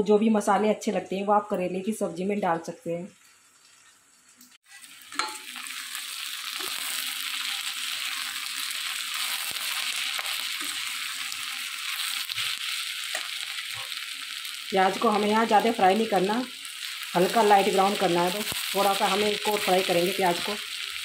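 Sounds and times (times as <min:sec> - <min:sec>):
onions sizzling in oil: 0:03.0 - 0:21.0.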